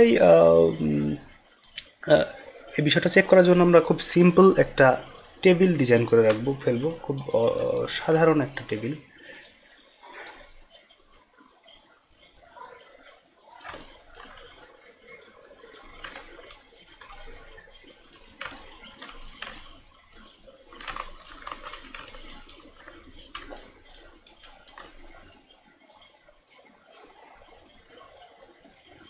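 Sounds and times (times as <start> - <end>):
computer mouse clicks: 4.0 - 13.0, 13.6 - 28.3.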